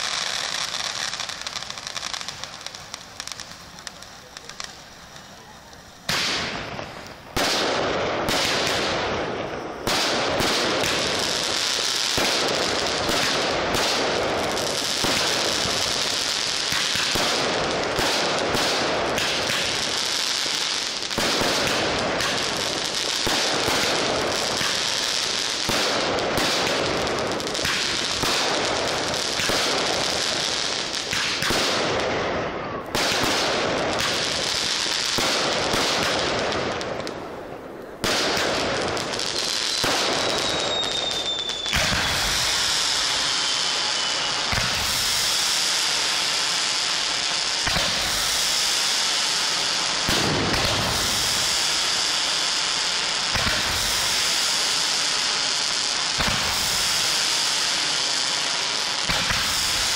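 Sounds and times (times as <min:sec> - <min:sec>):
fireworks crackling: 0:00.0 - 0:59.9
loud firework salvos: 0:00.0 - 0:59.9.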